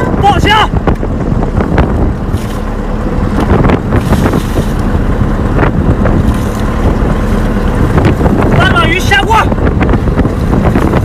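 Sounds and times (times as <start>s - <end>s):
boat engine drone: 0.0s - 11.0s
wind buffeting microphone: 0.0s - 11.0s.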